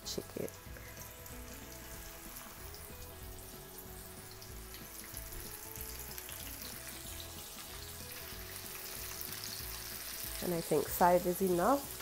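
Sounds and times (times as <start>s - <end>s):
hot oil sizzling and bubbling: 0.0s - 12.0s.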